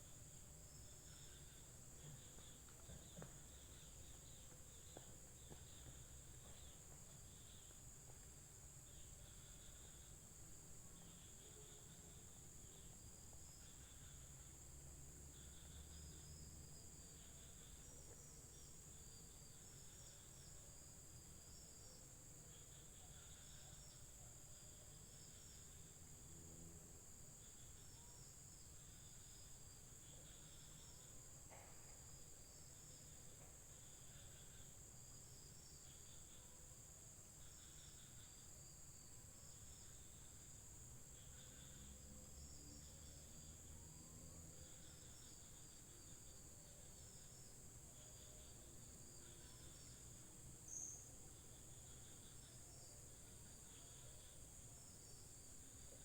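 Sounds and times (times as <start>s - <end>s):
chirping insect trills: 0.0s - 56.0s
insect buzz: 0.0s - 56.0s.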